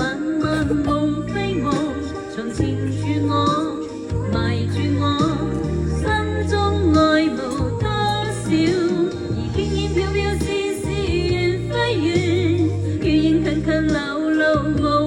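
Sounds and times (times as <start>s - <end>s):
sustained bass notes: 0.0s - 3.5s, 4.1s - 13.9s
pop song with singing: 0.0s - 15.0s.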